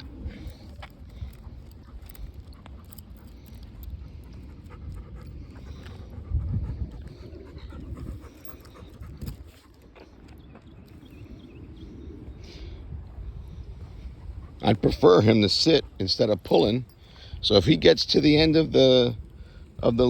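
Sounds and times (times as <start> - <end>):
dog panting: 0.0 - 10.4, 13.4 - 20.0.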